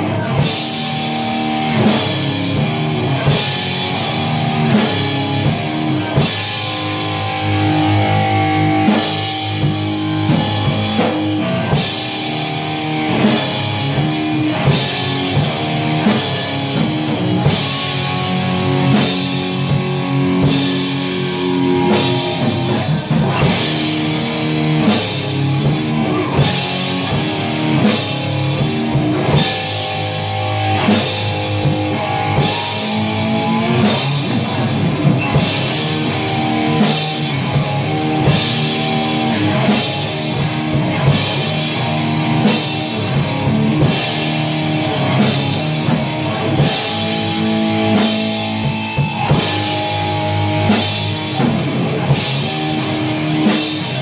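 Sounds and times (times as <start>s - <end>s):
drum kit: 0.0s - 54.0s
electric guitars playing chords: 0.0s - 54.0s.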